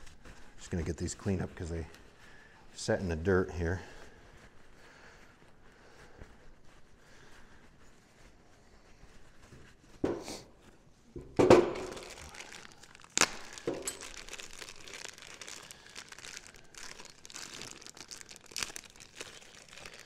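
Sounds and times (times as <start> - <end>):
hands rustling and crinkling: 0.0 - 20.0.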